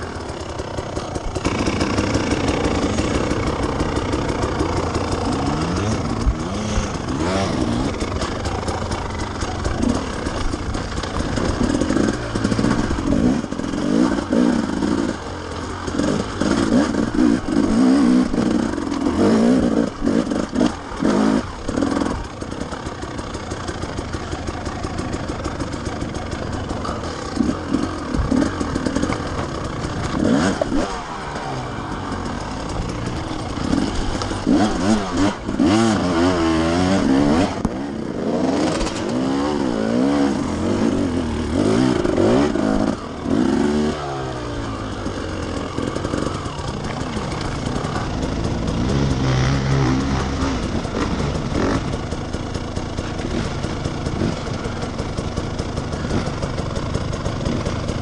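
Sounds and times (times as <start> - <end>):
bike knocking and clattering: 0.0 - 58.0
dirt bike engine revving: 0.0 - 58.0.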